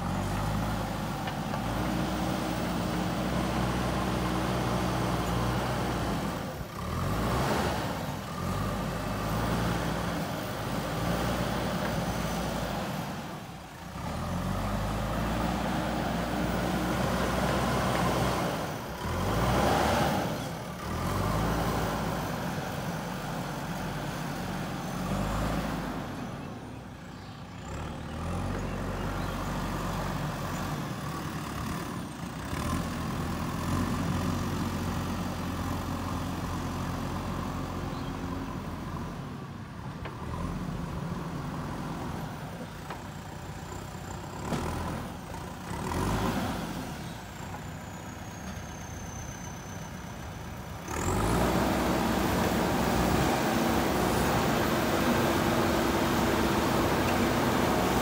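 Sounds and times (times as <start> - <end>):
backhoe diesel engine under load: 0.0 - 58.0.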